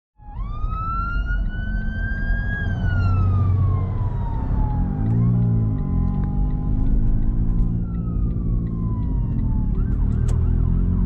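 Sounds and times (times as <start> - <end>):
fire engine siren wailing: 0.2 - 11.0
road noise inside a car: 0.2 - 11.0.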